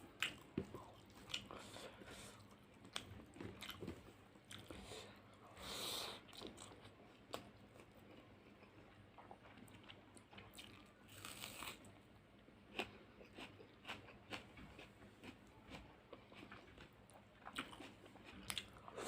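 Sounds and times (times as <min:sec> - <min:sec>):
person chewing food: 0:00.0 - 0:05.2, 0:06.3 - 0:19.0.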